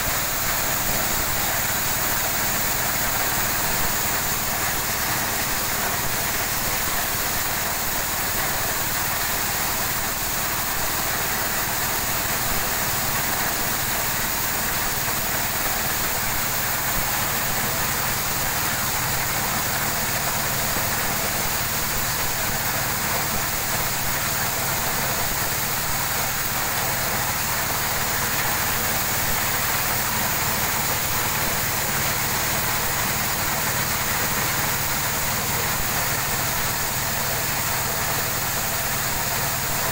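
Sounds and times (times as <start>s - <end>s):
corn kernels pouring hiss: 0.0s - 39.9s.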